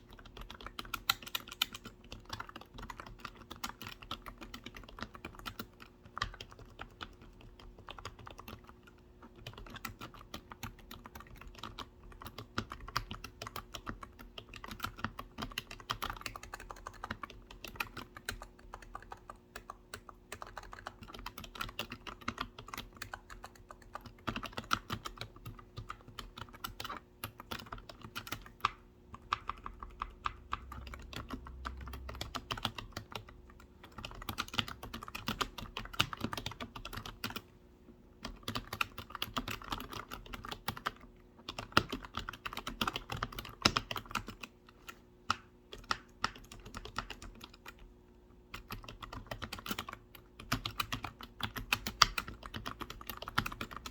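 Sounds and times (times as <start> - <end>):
typing on computer keyboard: 0.0 - 37.5, 38.2 - 47.9, 48.5 - 53.9
faint steady hum: 0.0 - 53.9.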